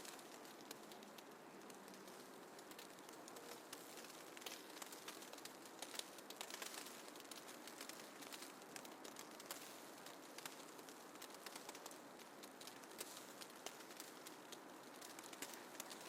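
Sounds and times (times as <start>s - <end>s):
light ticks and patters: 0.0s - 16.0s
soft steady hiss: 0.0s - 16.0s.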